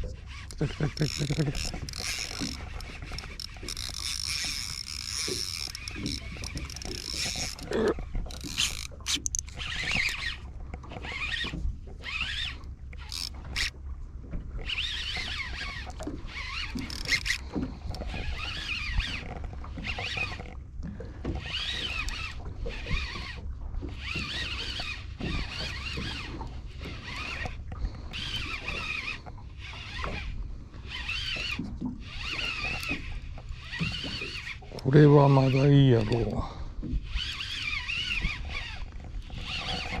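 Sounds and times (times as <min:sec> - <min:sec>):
fishing reel cranking: 0:00.0 - 0:13.8, 0:14.6 - 0:20.6, 0:21.2 - 0:40.0
boat motor low hum: 0:00.0 - 0:40.0.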